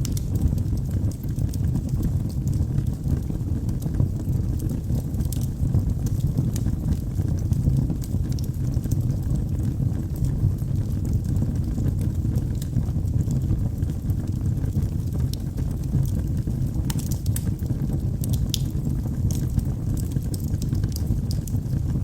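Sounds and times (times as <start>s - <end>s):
fire crackles and pops: 0.0s - 22.0s
low rush of flame: 0.0s - 22.0s.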